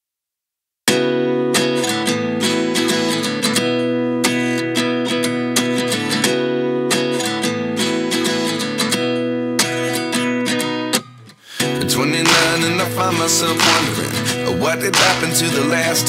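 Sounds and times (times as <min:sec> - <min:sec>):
strummed guitar music: 0:00.9 - 0:16.0.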